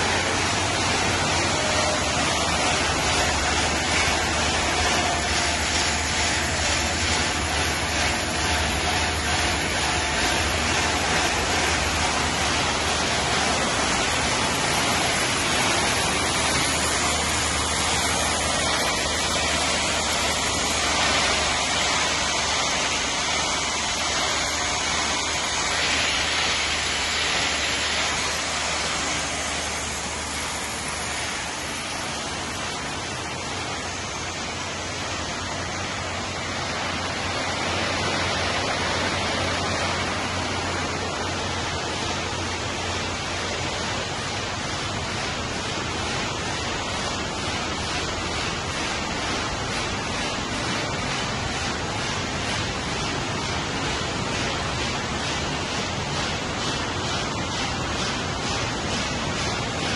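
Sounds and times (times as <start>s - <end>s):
processing machinery running: 0.0s - 59.9s.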